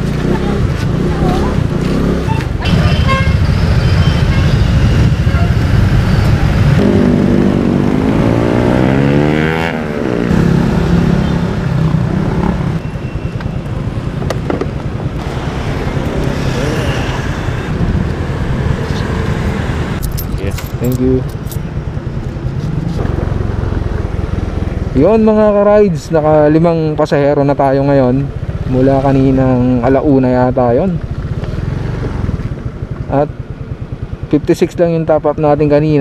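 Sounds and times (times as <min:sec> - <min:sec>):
motorcycle engine and road rumble: 0:00.0 - 0:36.0.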